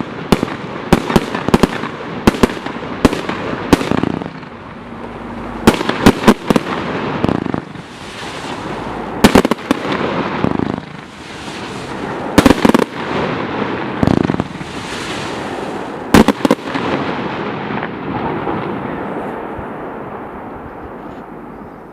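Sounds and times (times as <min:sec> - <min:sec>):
firework hissing: 0:00.0 - 0:18.0
firework bangs: 0:00.0 - 0:20.4.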